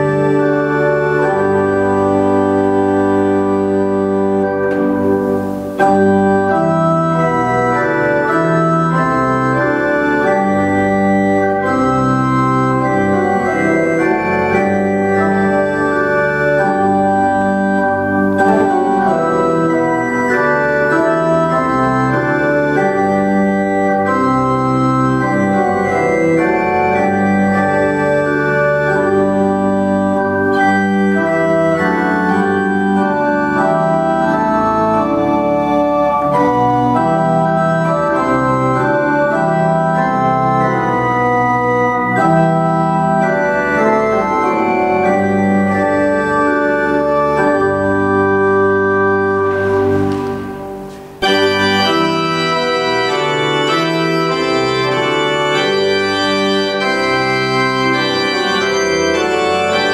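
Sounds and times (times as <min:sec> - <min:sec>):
church organ playing a hymn: 0:00.0 - 0:59.9.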